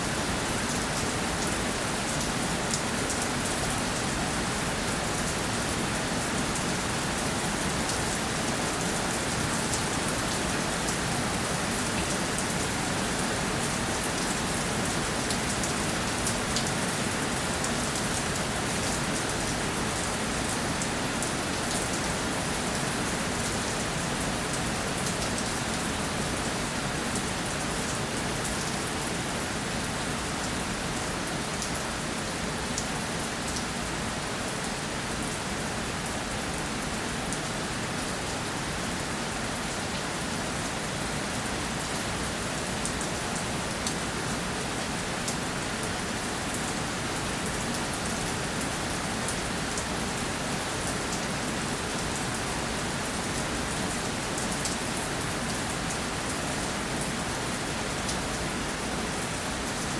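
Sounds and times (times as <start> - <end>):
rain pattering on a surface: 0.0 - 59.9.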